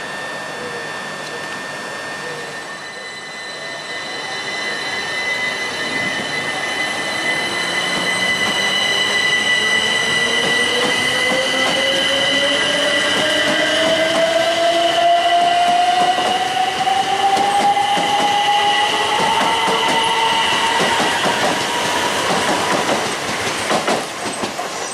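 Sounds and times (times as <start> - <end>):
steady high-pitched tones: 0.0 - 23.3
train accelerating whine: 0.0 - 24.9.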